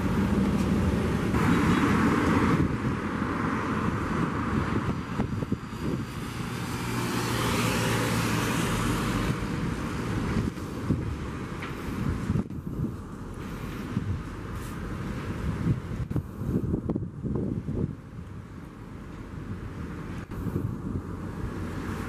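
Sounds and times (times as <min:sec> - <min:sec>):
diesel trucks passing: 0:00.0 - 0:22.0
tyre and road noise: 0:00.0 - 0:22.0.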